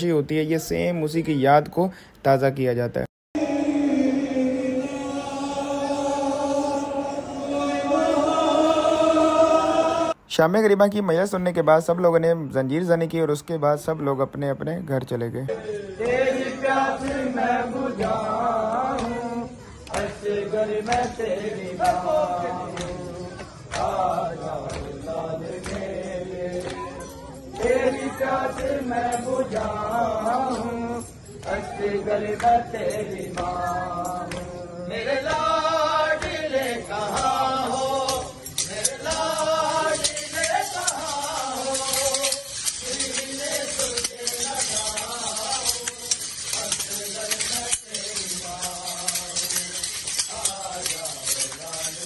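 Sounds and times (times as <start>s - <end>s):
voices chanting a lament: 3.4s - 10.3s, 15.1s - 52.0s.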